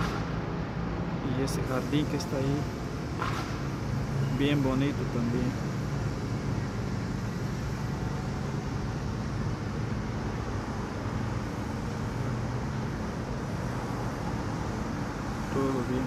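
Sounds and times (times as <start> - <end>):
urban background rumble: 0.0 - 16.0.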